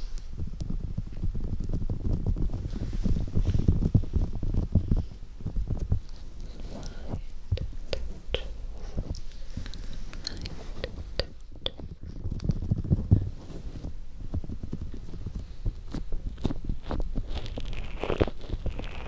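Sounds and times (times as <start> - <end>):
fingertips tapping on fur microphone: 0.0 - 19.0
muffled thumps and rustling: 0.0 - 19.0.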